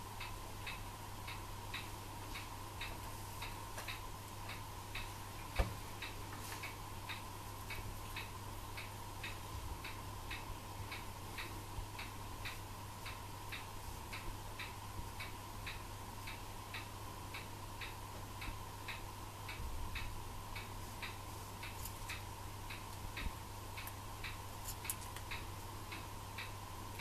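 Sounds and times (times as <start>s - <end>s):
regular ticking: 0.0s - 27.0s
steady low hum: 0.0s - 27.0s.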